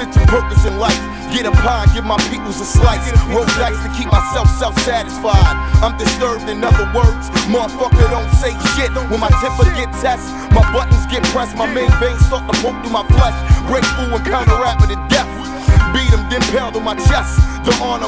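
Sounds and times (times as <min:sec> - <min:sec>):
hip-hop drum beat and bass: 0:00.0 - 0:18.0
rapping over a beat: 0:00.0 - 0:18.0.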